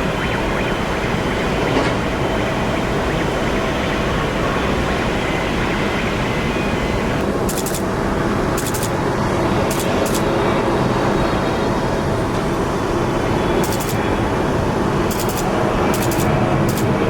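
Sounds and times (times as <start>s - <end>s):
jet aircraft engine noise: 0.0s - 17.0s.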